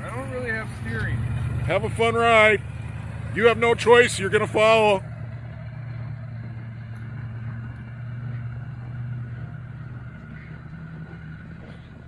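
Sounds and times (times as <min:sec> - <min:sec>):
truck engine low hum: 0:00.0 - 0:12.0.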